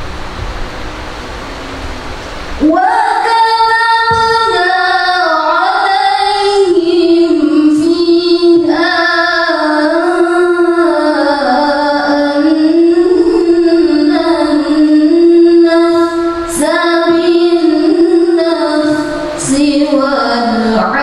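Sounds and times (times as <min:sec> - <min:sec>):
woman chanting recitation: 0:02.6 - 0:21.0.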